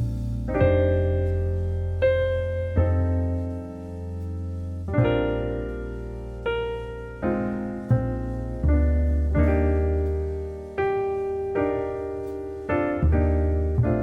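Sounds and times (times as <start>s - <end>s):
slow electric piano chords: 0.0s - 14.0s
steady bass: 0.0s - 14.0s.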